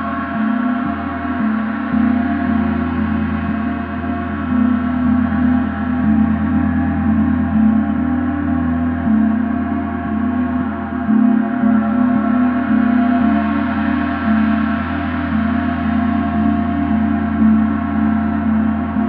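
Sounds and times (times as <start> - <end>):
gong played with soft mallets: 0.0 - 19.0.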